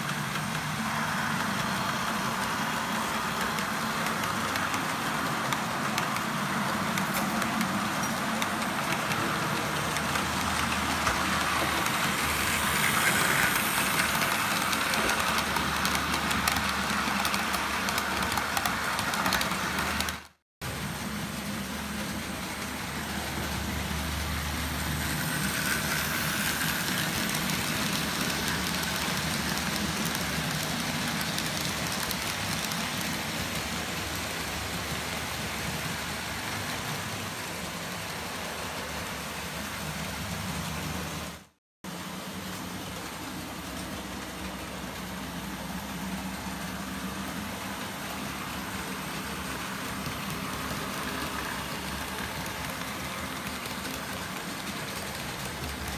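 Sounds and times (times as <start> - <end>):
model train running on track: 0.0 - 55.9.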